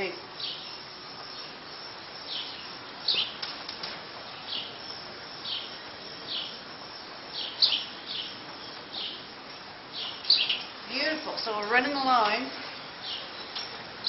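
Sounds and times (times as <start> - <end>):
small birds chirping: 0.0 - 14.0
steady background hum: 0.0 - 14.0.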